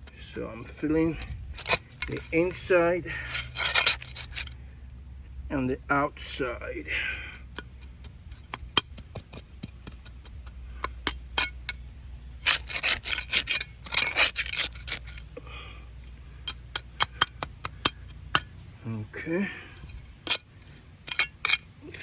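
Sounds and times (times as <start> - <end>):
gritty scraping of fill: 0.0 - 4.9, 5.9 - 22.0.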